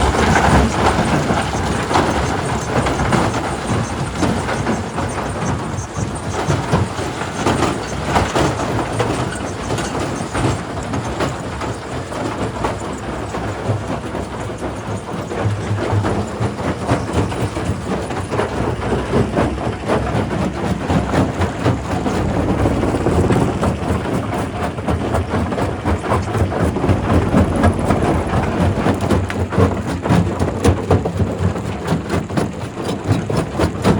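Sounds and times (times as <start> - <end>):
rock crusher running: 0.0 - 33.8.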